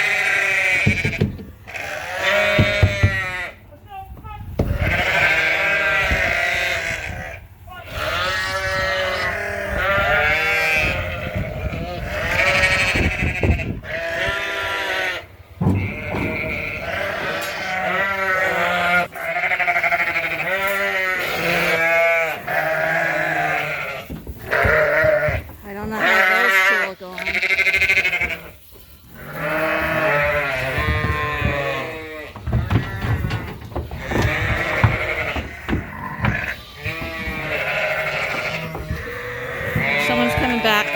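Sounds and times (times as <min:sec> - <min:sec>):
sheep bleating: 0:00.0 - 0:03.6, 0:04.7 - 0:28.6, 0:29.2 - 0:40.9.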